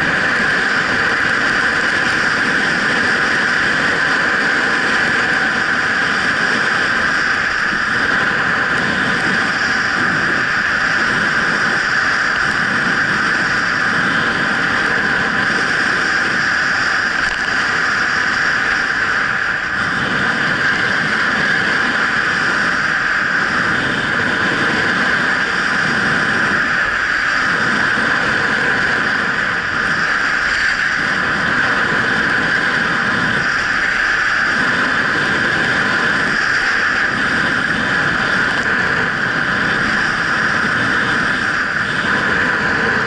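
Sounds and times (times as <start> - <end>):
skis sliding over snow: 0.0 - 43.0
wind rushing on microphone: 0.0 - 43.0.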